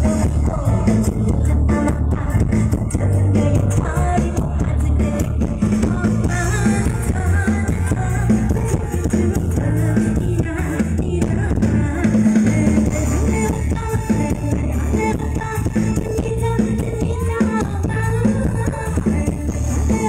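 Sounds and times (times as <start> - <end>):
drums: 0.0 - 20.0
live band music: 0.0 - 20.0
person singing: 0.0 - 20.0
pulsing bass: 0.0 - 20.0.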